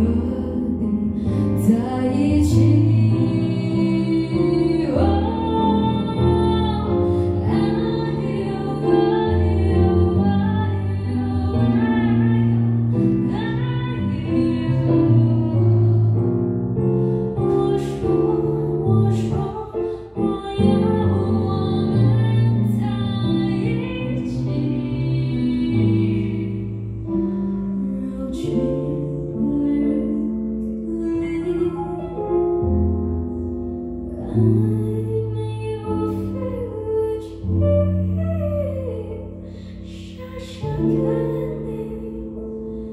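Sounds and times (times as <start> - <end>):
woman singing: 0.0 - 16.5, 17.2 - 32.7, 34.1 - 42.9.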